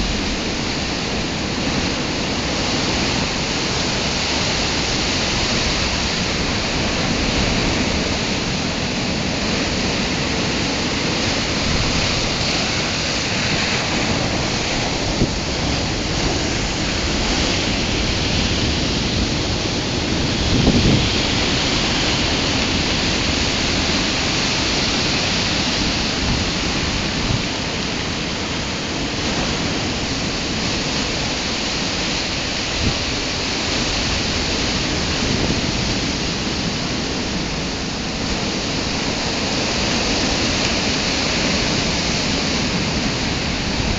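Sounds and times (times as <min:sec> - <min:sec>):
storm surf breaking over rocks: 0:00.0 - 0:43.9.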